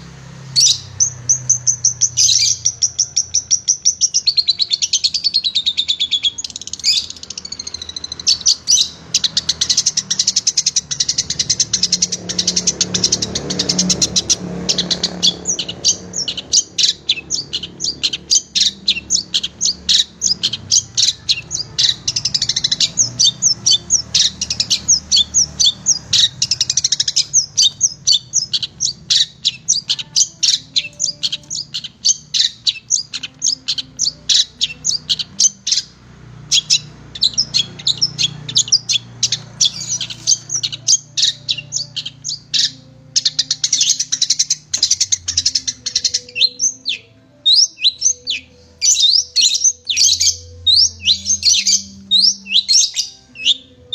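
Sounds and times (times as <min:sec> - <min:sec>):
shrike chattering song: 0:00.0 - 0:53.9.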